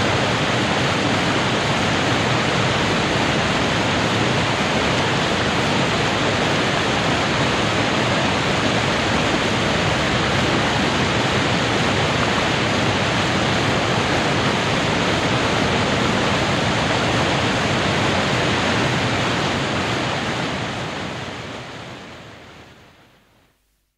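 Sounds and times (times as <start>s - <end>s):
water rushing over weir: 0.0s - 22.9s.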